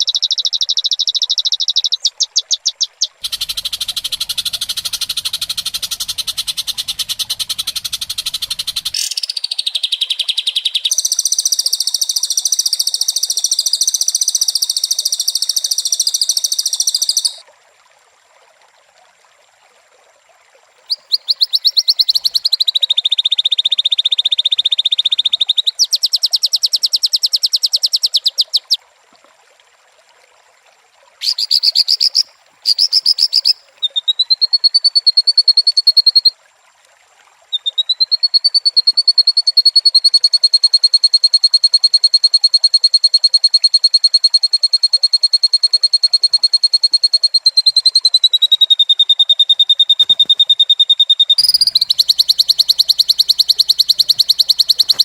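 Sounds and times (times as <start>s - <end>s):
high-pitched trilling calls: 0.0s - 17.4s, 20.9s - 23.4s, 25.2s - 28.8s, 31.2s - 36.3s, 37.6s - 55.0s.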